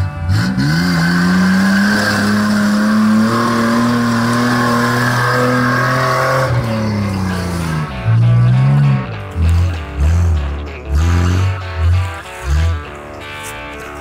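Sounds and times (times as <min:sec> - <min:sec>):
off-road vehicle engine revving: 0:00.0 - 0:13.4.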